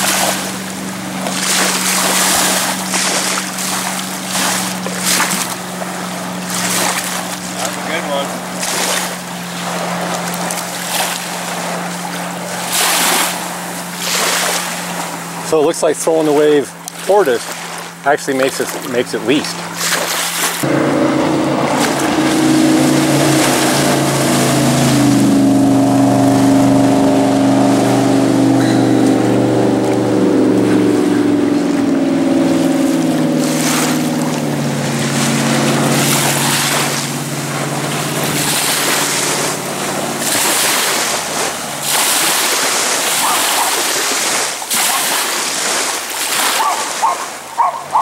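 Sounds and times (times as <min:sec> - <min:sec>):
boat wake washing onto shore: 0:00.0 - 0:48.0
jet boat engine passing: 0:00.0 - 0:48.0.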